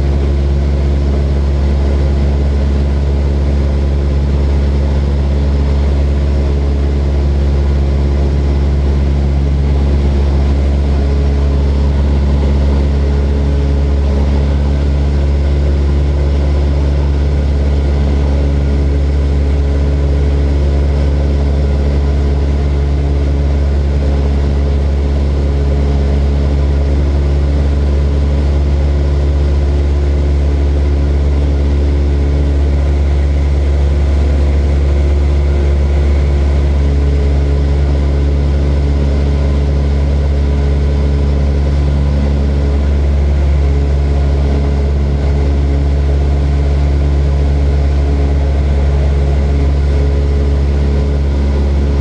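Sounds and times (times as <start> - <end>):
propeller aircraft engine droning: 0.0 - 52.0.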